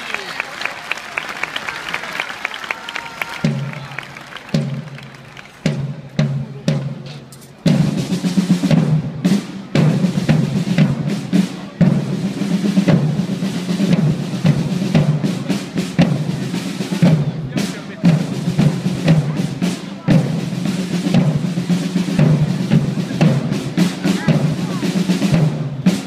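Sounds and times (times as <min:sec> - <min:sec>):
drums beating: 0:00.0 - 0:26.0.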